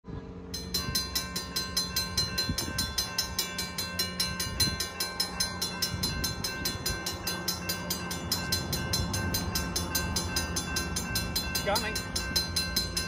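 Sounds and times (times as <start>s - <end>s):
mechanical crossing bell ringing: 0.5s - 13.0s.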